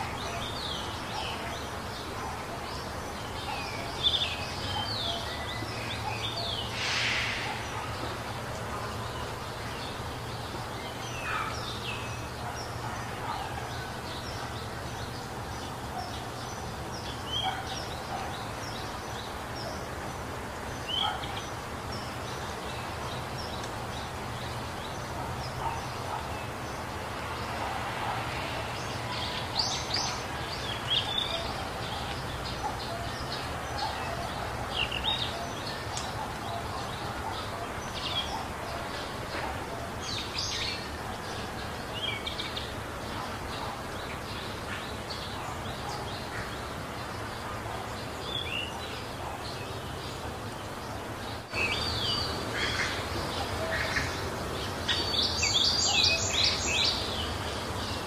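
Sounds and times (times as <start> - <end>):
background hiss: 0.0 - 58.0
birds chirping: 0.0 - 58.0.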